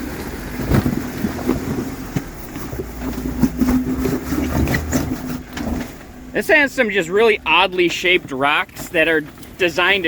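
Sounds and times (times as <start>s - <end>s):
engine running under load: 0.0s - 10.0s
tyres knocking and scraping on rocks: 0.2s - 6.1s, 7.7s - 10.0s.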